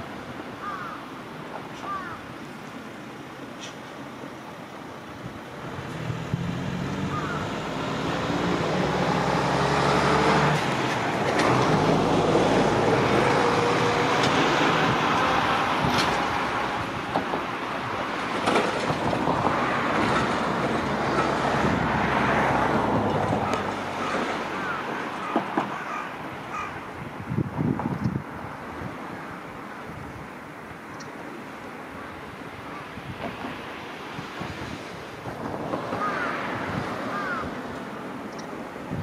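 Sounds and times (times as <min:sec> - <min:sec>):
vehicle engine and tyre noise: 0:00.0 - 0:39.0.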